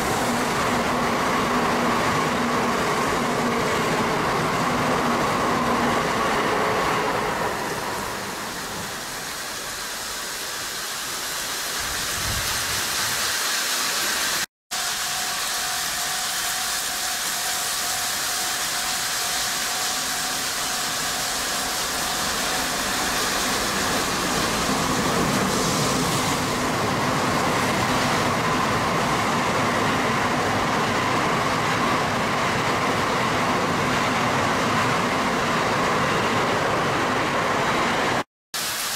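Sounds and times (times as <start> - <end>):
train passing with rushing noise: 0.0 - 38.9.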